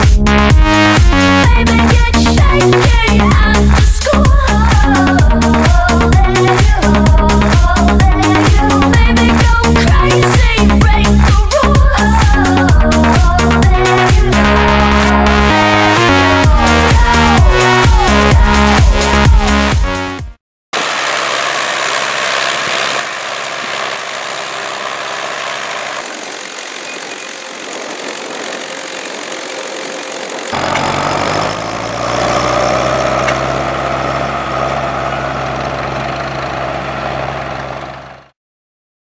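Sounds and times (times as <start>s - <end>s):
tractor diesel engines: 0.0s - 19.6s, 20.8s - 38.4s.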